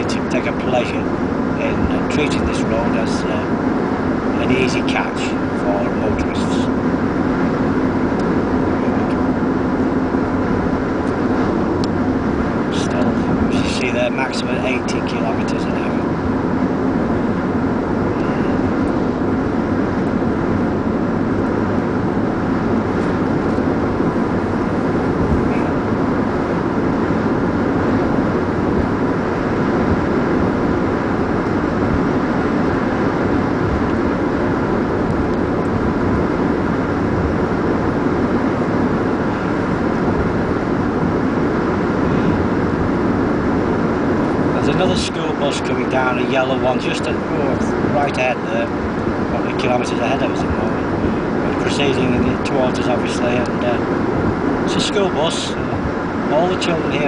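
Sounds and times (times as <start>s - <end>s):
car cruising interior drone: 0.0s - 57.0s.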